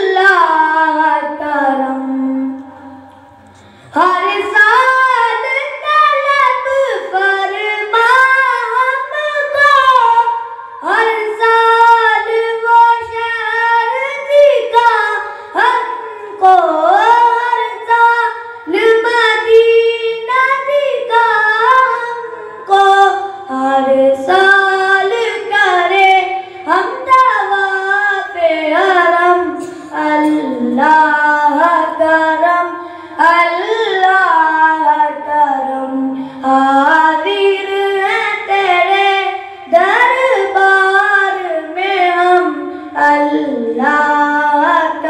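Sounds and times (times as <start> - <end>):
boy singing unaccompanied: 0.0 - 3.0, 3.9 - 45.0.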